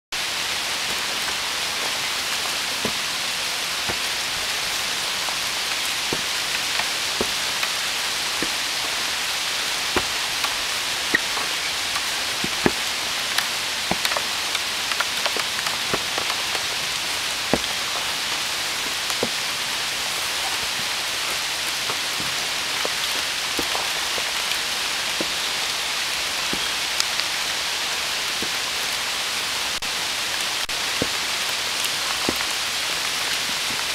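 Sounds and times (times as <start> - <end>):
rain falling through trees: 0.1 - 33.9.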